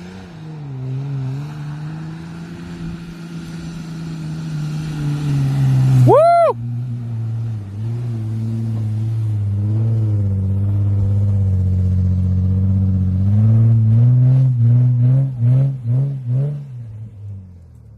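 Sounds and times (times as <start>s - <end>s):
off-road vehicle engine revving: 0.0s - 17.8s.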